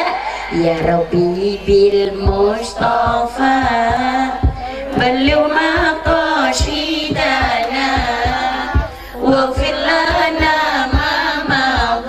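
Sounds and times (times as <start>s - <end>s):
drum beat: 0.0s - 12.0s
woman singing over pa: 0.0s - 12.0s.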